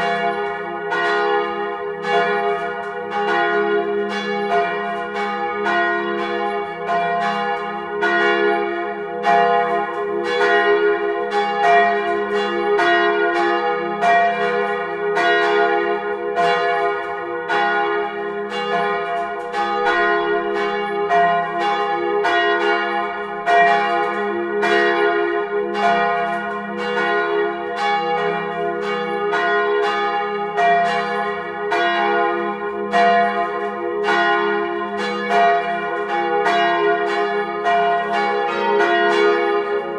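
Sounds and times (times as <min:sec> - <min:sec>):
church bells ringing in a peal: 0:00.0 - 0:39.9.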